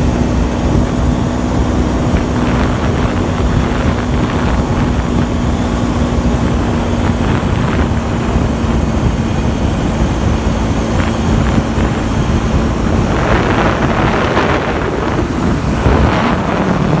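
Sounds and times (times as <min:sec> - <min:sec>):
motorbike engine hum: 0:00.0 - 0:17.0
rushing noise: 0:00.0 - 0:17.0
wind rumble on microphone: 0:00.0 - 0:17.0.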